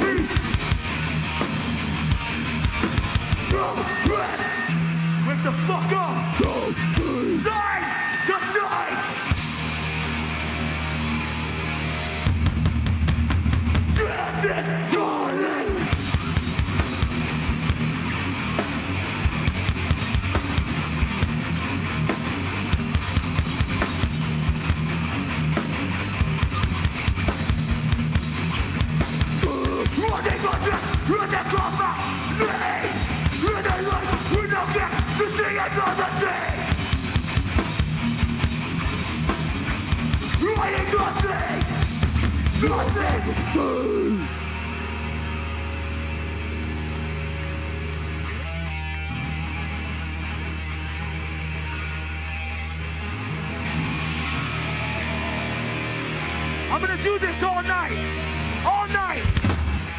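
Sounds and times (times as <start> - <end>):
rapid driving drums: 0.0 - 4.8, 5.4 - 44.0, 45.3 - 59.9
distorted guitars and bass: 0.0 - 59.9.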